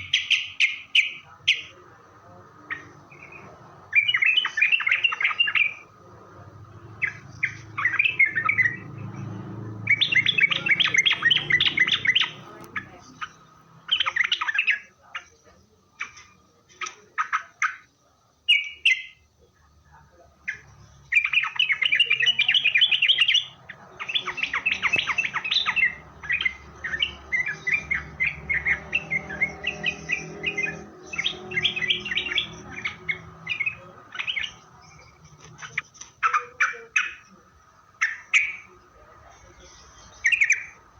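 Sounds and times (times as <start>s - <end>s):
bird chattering chirps: 0.0s - 19.4s, 20.4s - 40.9s.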